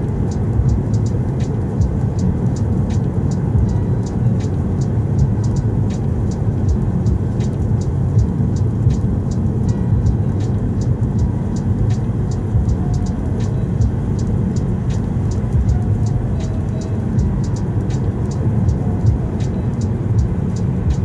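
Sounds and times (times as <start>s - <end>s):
car road and engine rumble: 0.0s - 21.0s
light high ticks: 0.0s - 21.0s.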